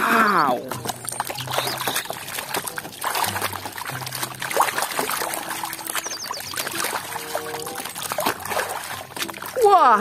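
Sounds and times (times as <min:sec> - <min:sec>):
water sloshing in plastic basin: 0:00.0 - 0:10.0.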